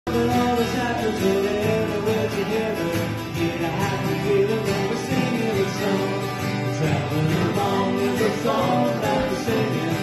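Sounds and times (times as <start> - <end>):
man singing: 0.1 - 10.0
strummed acoustic guitars: 0.1 - 10.0.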